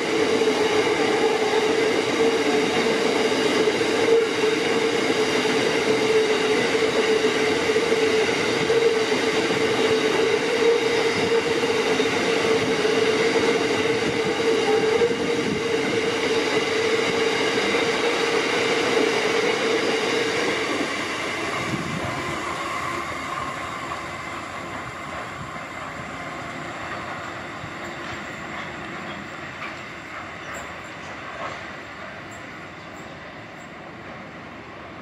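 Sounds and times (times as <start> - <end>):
freight wagons rumbling on rails: 0.0 - 34.3.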